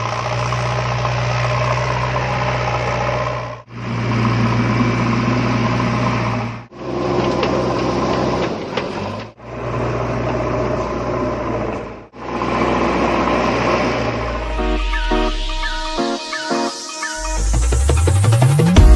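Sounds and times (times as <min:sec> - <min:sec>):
tractor engine droning: 0:00.0 - 0:18.9.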